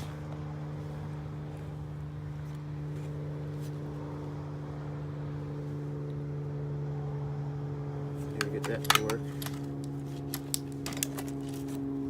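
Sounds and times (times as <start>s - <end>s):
small two-stroke engine running: 0.0s - 12.0s.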